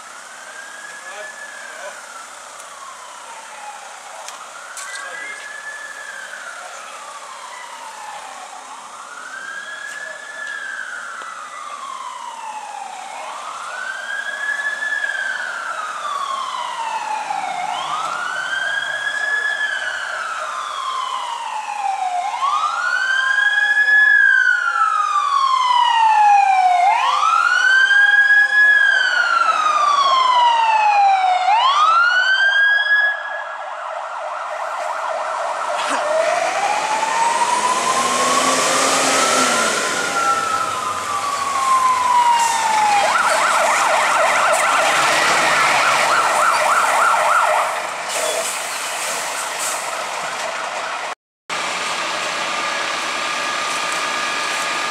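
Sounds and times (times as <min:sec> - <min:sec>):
emergency vehicle siren wailing: 0:00.0 - 0:54.9.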